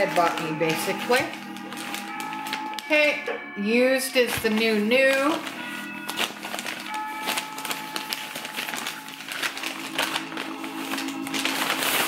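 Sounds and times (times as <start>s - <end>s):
paper wrapping rustling: 0.0s - 12.0s.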